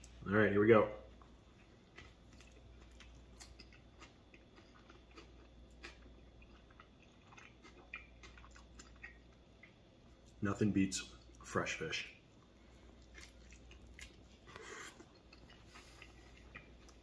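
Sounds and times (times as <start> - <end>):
low room hum: 0.0 - 17.0
person chewing: 1.2 - 10.3, 12.4 - 17.0.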